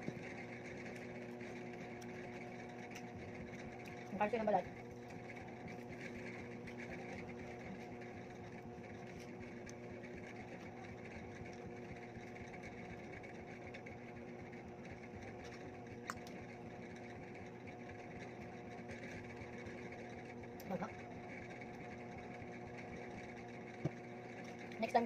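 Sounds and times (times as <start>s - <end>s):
machine hum and whir: 0.0s - 25.0s.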